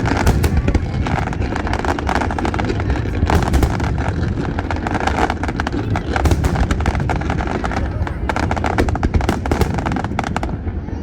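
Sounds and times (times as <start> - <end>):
fireworks crackling and popping: 0.0 - 11.0
rumble of firework bursts: 0.0 - 11.0.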